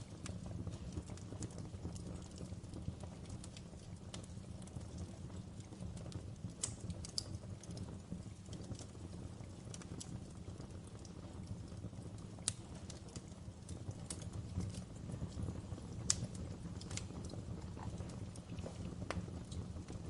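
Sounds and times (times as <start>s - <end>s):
fireplace fire crackling: 0.0s - 20.0s.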